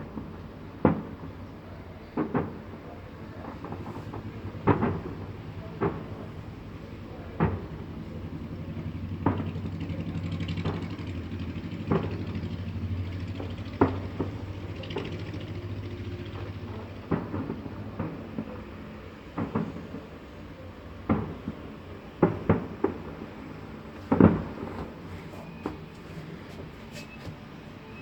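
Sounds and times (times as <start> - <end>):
fireworks booming: 0.0 - 28.0.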